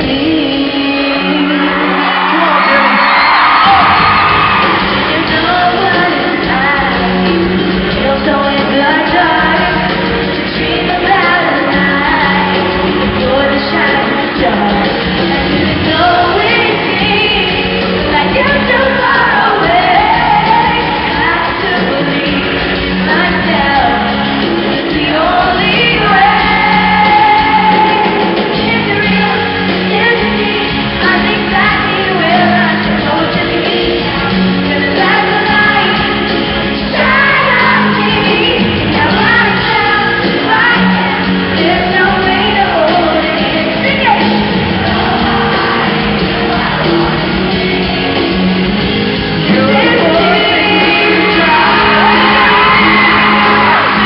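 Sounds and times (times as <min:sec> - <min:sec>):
woman singing lead vocal: 0:00.0 - 0:48.7, 0:49.4 - 0:54.0
drums: 0:00.0 - 0:54.0
electric guitars: 0:00.0 - 0:54.0
fans shouting along: 0:00.0 - 0:54.0.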